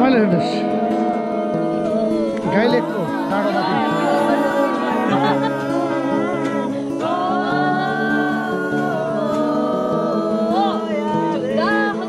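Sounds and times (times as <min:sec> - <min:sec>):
melody over held chords: 0:00.0 - 0:12.0.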